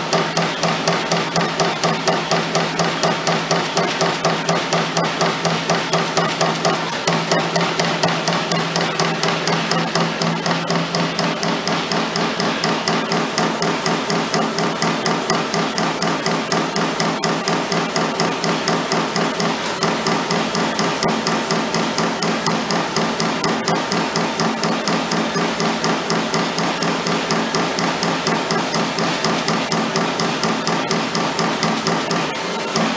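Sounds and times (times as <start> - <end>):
machine hum: 0.0 - 32.9
turret punch hitting sheet metal: 0.0 - 32.9.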